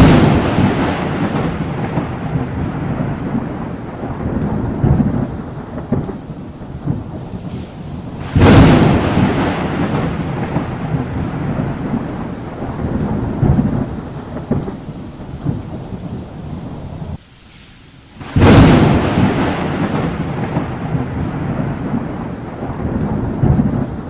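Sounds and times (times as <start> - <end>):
rumbling thunder: 0.0 - 17.2, 18.2 - 24.0
sharp thunderclap: 0.0 - 17.2, 18.2 - 24.0
rain: 0.0 - 24.0.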